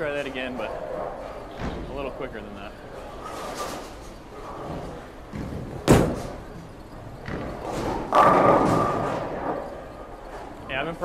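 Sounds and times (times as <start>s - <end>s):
bowling ball rolling: 0.0s - 11.0s.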